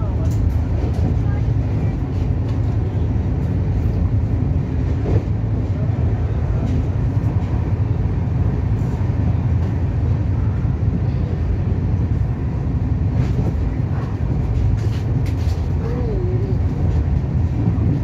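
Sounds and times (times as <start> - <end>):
train coach rumbling inside: 0.0 - 18.0.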